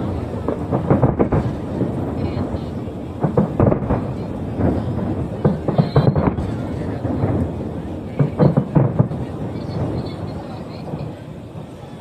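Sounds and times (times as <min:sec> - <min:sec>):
distant fireworks booms: 0:00.0 - 0:12.0
loud fireworks bangs: 0:00.0 - 0:12.0.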